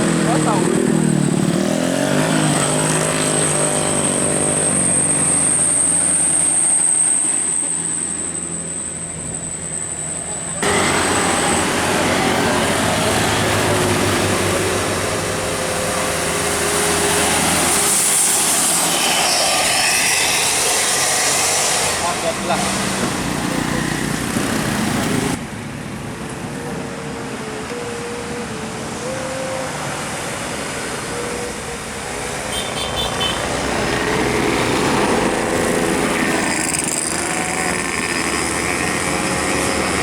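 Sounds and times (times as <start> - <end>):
bus engine rumble: 0.0 - 40.0
road traffic noise: 0.0 - 40.0.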